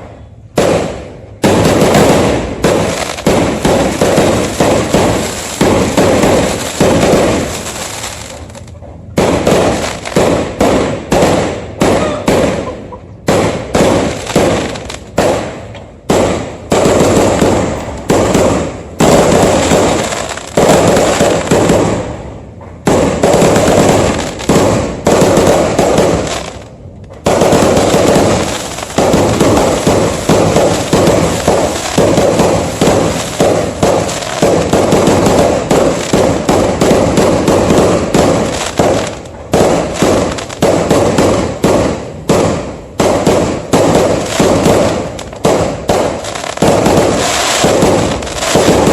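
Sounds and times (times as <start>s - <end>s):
fireworks exploding loudly: 0.0s - 48.9s.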